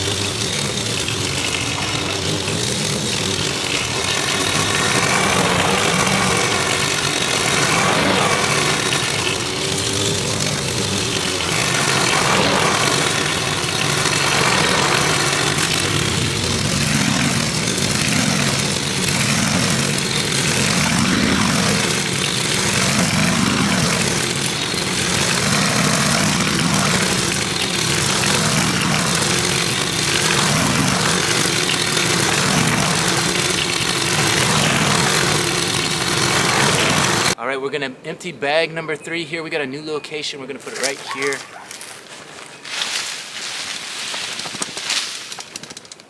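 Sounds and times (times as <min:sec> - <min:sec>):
petrol lawn mower cutting grass: 0:00.0 - 0:37.4, 0:38.8 - 0:46.0.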